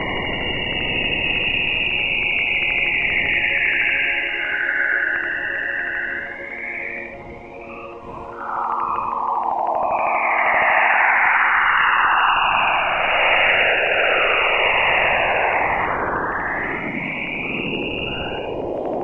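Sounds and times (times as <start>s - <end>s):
eerie sweeping hissing noise: 0.0s - 19.0s.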